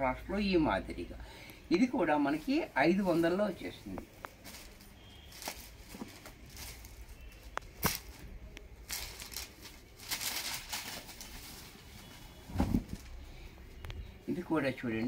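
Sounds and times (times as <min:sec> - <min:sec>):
fabric rustling and swishing: 0:01.7 - 0:13.8.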